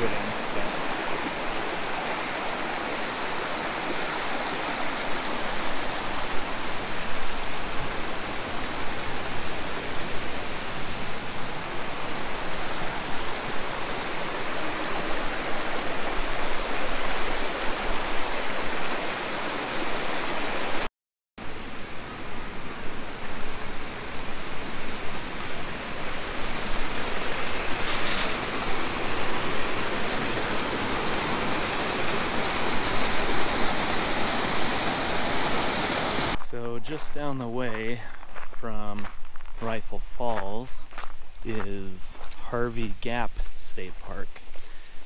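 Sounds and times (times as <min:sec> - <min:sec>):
waterfall rushing: 0:00.0 - 0:36.4.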